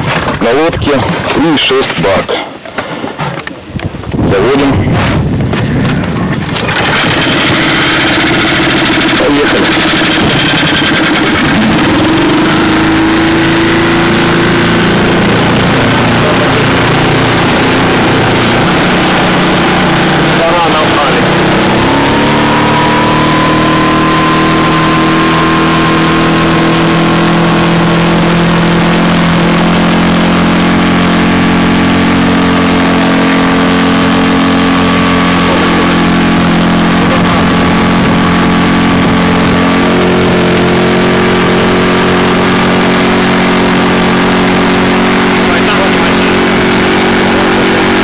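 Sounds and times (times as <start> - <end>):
outboard motor running hard: 0.0 - 48.0.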